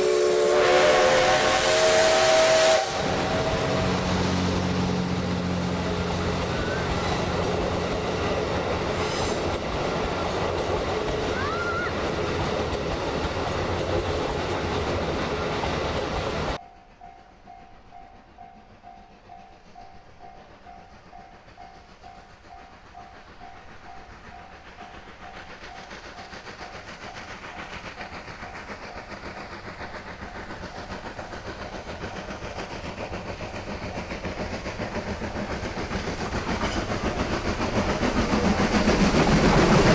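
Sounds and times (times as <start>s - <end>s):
steam locomotive passing: 0.0s - 39.9s
train approaching: 0.0s - 39.9s.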